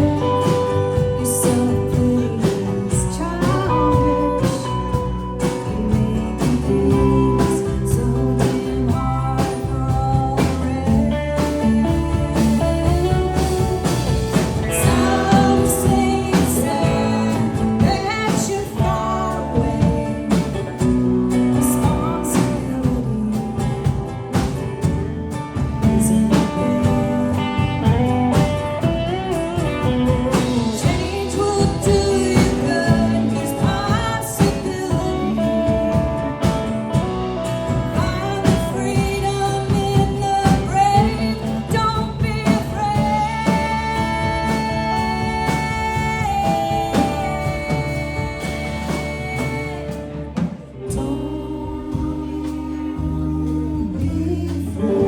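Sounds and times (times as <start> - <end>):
person singing: 0.0 - 24.7, 25.5 - 55.0
guitar accompaniment: 0.0 - 55.0.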